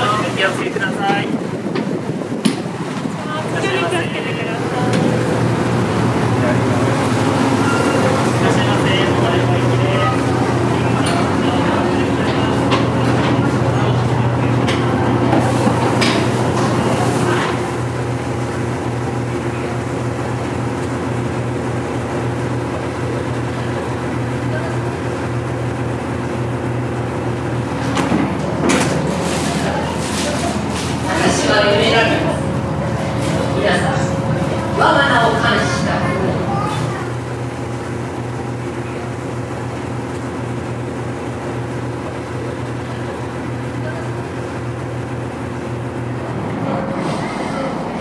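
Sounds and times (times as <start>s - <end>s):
boat engine drone: 0.0s - 48.0s.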